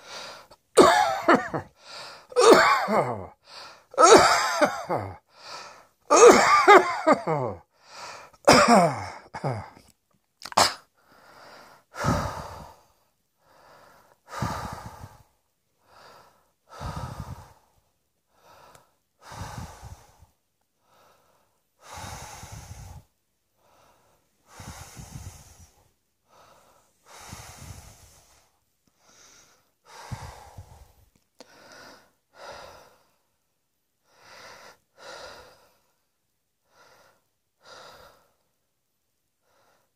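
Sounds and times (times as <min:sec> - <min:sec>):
person breathing heavily: 0:00.0 - 0:09.8, 0:11.0 - 0:33.4, 0:34.0 - 0:38.5, 0:39.4 - 0:39.9.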